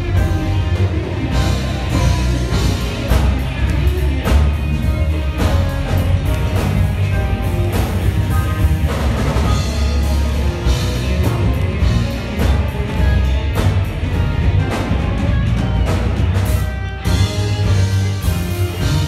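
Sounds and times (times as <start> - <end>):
bass guitar: 0.0 - 19.0
drum kit with cymbal strikes: 0.0 - 19.0
electric guitar: 0.0 - 19.0.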